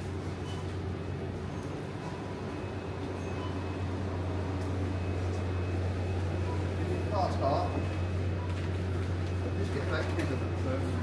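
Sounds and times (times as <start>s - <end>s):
refrigeration hum: 0.0s - 11.0s.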